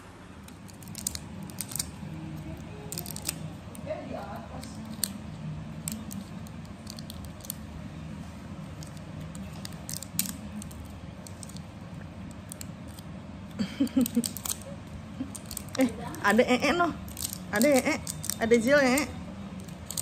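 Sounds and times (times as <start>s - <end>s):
low background murmur: 0.3s - 20.0s
plastic clicking and crinkling: 0.4s - 7.7s, 8.7s - 13.1s, 13.8s - 20.0s.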